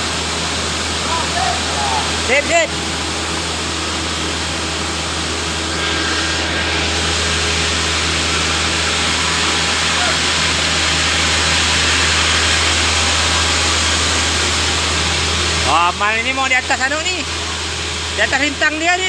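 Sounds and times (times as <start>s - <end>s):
loud machinery noise: 0.0s - 19.0s.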